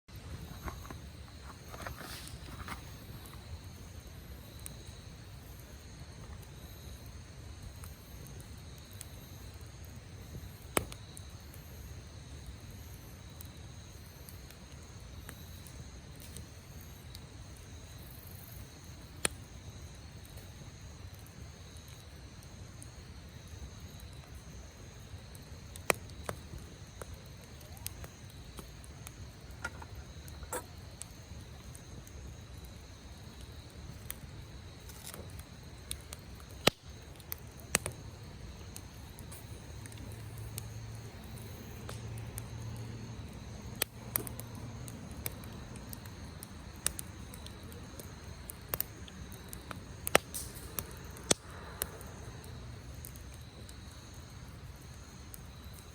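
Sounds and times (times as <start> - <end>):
campfire crackling: 0.1 - 55.9
fire popping: 0.1 - 55.9
insects trilling: 0.1 - 55.9.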